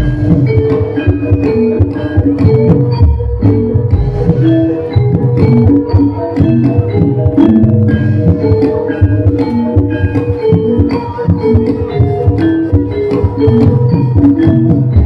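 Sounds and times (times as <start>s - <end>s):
metal mallet instruments ringing: 0.0s - 15.0s
steady drum beats: 0.0s - 15.0s.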